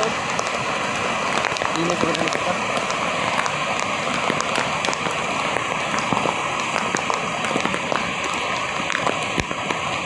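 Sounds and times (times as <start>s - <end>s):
steady rain falling: 0.0s - 10.0s
sharp raindrop ticks: 0.1s - 10.0s.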